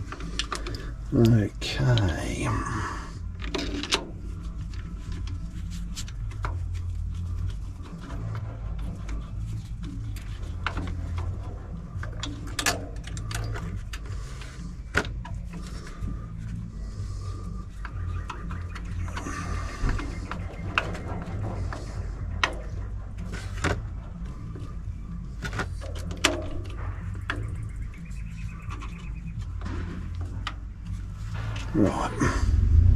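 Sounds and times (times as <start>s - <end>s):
steady low hum: 0.0s - 32.9s
hand tools clicking and knocking: 3.3s - 16.7s, 17.8s - 31.0s.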